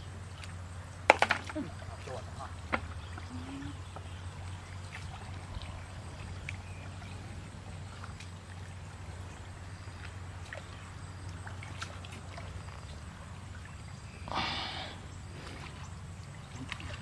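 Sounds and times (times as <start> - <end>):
steady low hum: 0.0 - 17.0
splashing in muddy water: 0.2 - 17.0.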